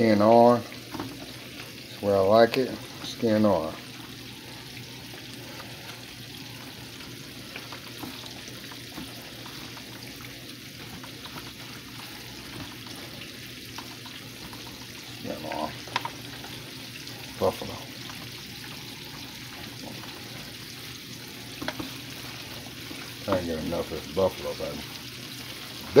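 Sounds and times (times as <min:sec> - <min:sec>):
fish frying in hot oil: 0:00.0 - 0:26.0.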